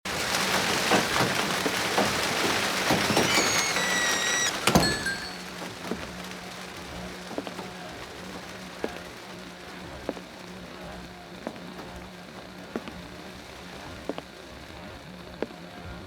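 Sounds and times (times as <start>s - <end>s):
light drips and ticks: 0.1s - 15.7s
heavy rain: 0.1s - 16.0s.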